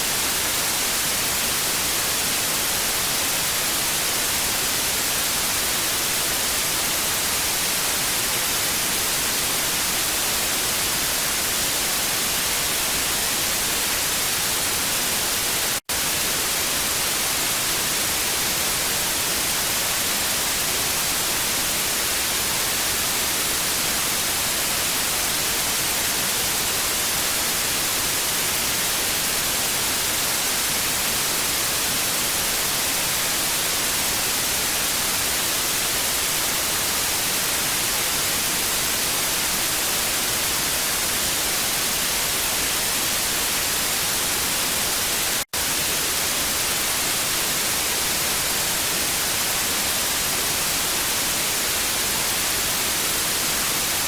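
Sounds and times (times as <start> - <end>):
television static hiss: 0.0 - 54.0.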